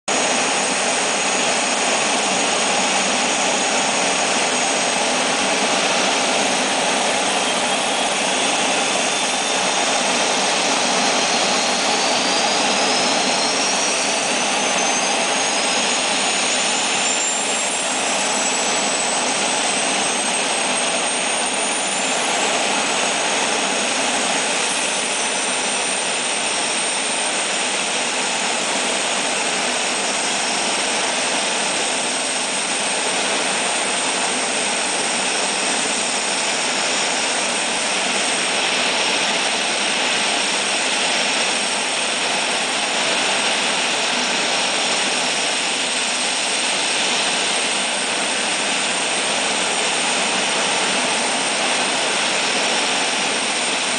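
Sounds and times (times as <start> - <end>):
high whine: 0.1 - 53.9
turboprop engines running: 0.1 - 53.9.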